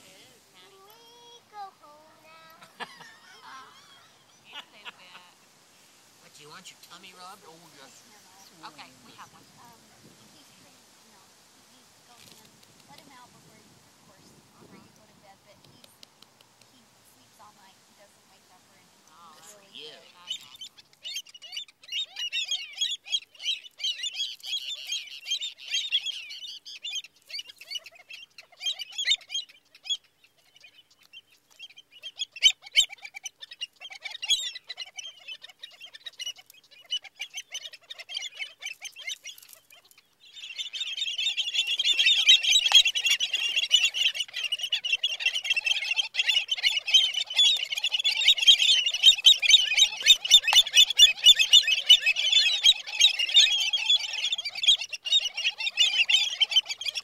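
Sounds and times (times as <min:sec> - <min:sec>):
birds calling in alarm: 0:00.0 - 0:57.0.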